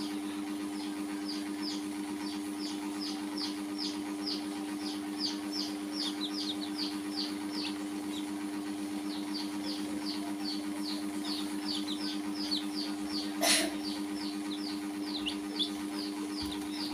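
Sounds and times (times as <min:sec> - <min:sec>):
chicks peeping: 0:00.0 - 0:16.9
steady low hum: 0:00.0 - 0:16.9.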